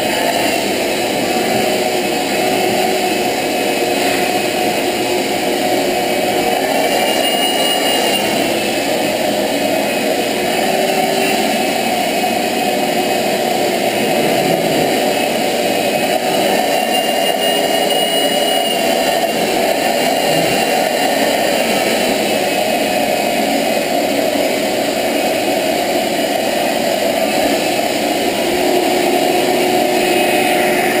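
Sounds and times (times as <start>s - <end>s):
shop vacuum running: 0.0s - 31.0s.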